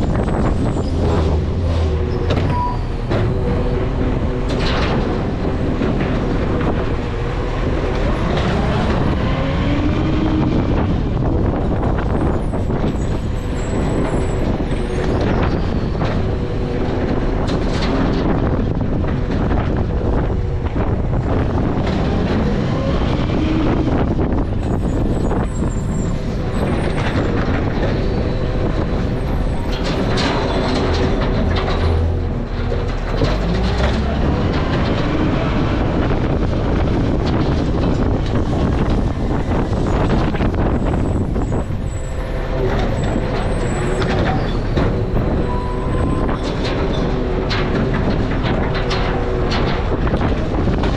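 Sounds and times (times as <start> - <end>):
garbage truck running: 0.0 - 50.9.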